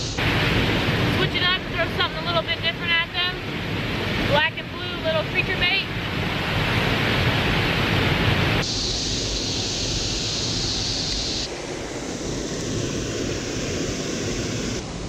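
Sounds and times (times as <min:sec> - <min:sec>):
water rushing over spillway: 0:00.0 - 0:15.0.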